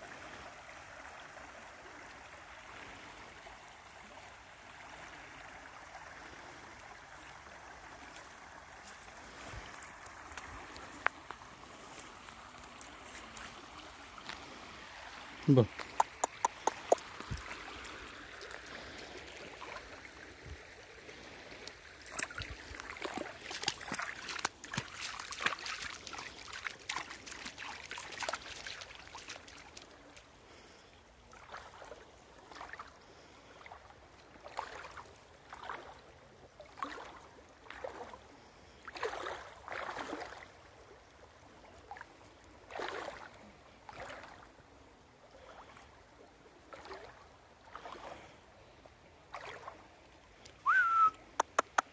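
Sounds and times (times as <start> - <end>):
footsteps wading through water: 6.2 - 51.9.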